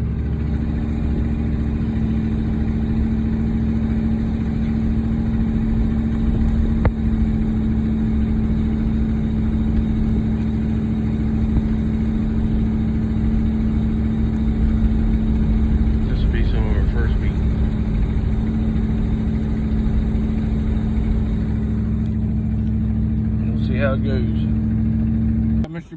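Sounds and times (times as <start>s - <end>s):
vehicle engine humming: 0.0s - 25.9s.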